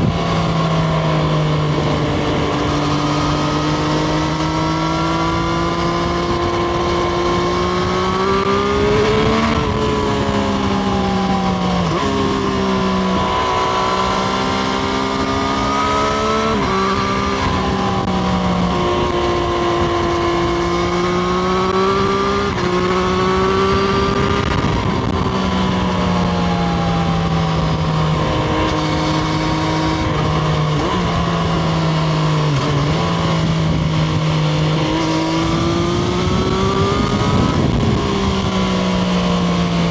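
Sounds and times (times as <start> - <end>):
motorcycle engine under way: 0.0 - 39.9
wind noise: 0.0 - 39.9.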